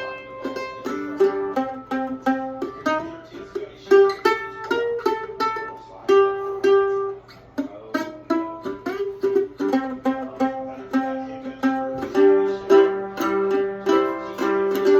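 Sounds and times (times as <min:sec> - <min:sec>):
mandolin playing blues: 0:00.0 - 0:14.9.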